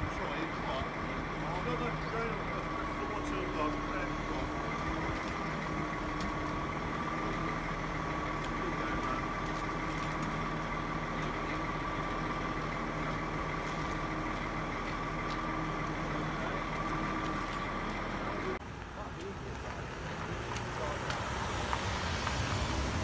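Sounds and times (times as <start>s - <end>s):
constant high whine: 0.0s - 23.0s
diesel engine idling: 0.0s - 23.0s.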